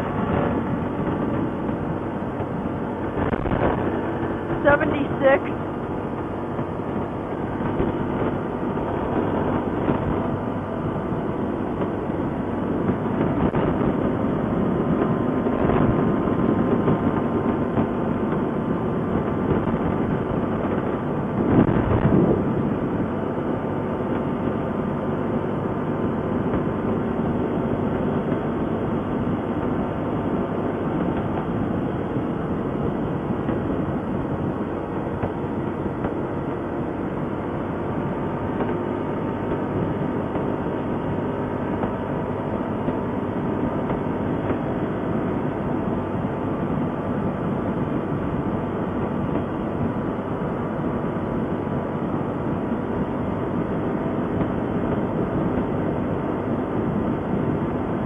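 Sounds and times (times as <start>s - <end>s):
engine rumbling with rattle: 0.0s - 58.0s.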